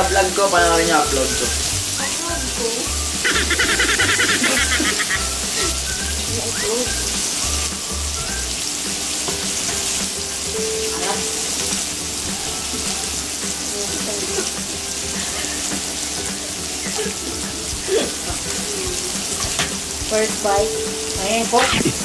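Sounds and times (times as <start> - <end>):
pork sizzling on grill pan: 0.0 - 22.0.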